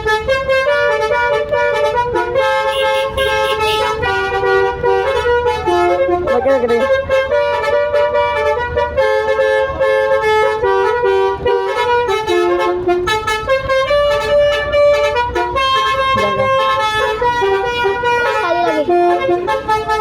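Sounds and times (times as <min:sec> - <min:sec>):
low bus rumble: 0:00.0 - 0:20.0
multi-note bus horn tune: 0:00.0 - 0:20.0.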